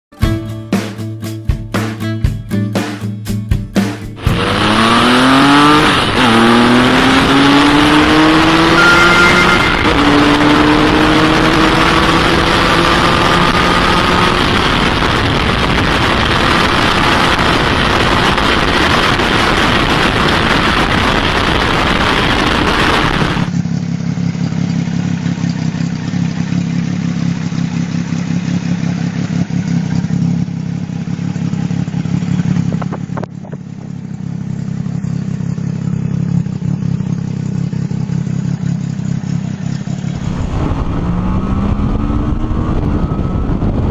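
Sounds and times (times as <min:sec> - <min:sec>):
motorcycle engine accelerating: 0:03.8 - 0:43.9.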